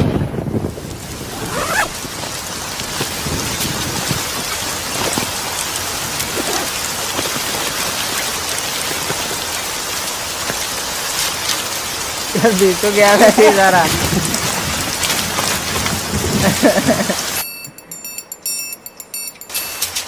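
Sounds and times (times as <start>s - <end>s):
heavy rain falling: 0.0s - 17.4s.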